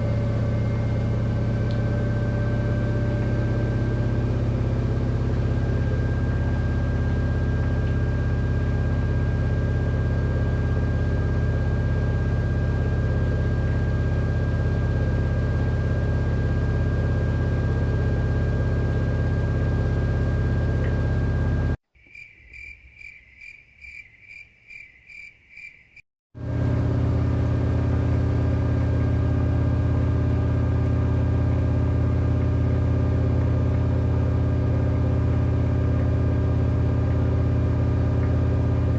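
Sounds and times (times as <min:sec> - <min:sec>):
washing machine humming: 0:00.0 - 0:21.8, 0:26.4 - 0:38.9.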